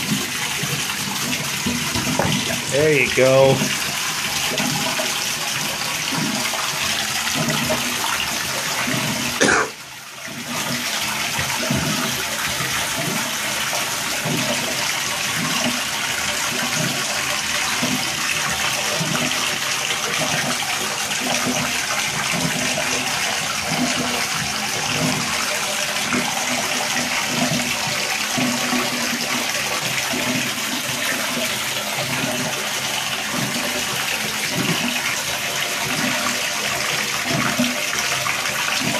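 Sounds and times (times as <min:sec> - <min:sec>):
water running in bathtub: 0:00.0 - 0:38.9.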